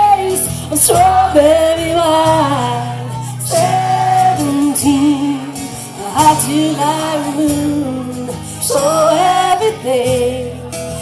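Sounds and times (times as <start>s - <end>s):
acoustic guitar: 0.0s - 11.0s
woman and man singing: 0.0s - 11.0s.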